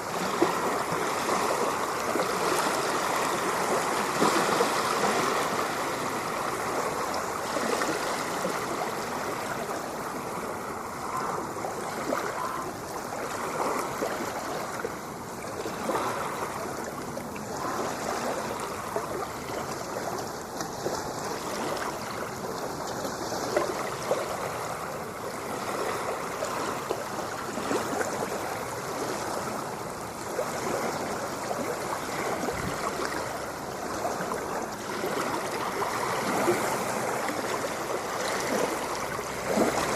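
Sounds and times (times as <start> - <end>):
ocean water washing and gurgling: 0.0 - 39.9.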